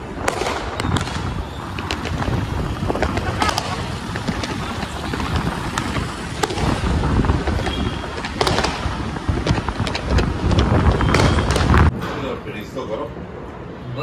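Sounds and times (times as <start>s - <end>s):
sharp cracks: 0.0s - 11.9s
wind buffeting microphone: 0.0s - 12.0s
vehicle and road rumble: 0.0s - 14.0s.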